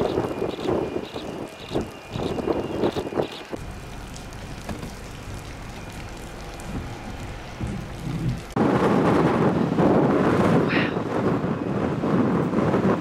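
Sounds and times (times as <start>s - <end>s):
wind and rain on microphone: 0.0s - 13.0s.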